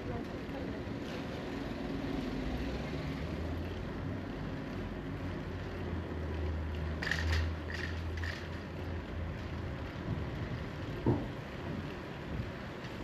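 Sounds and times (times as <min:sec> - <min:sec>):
road rumble: 0:00.0 - 0:13.0
wind: 0:00.0 - 0:13.0.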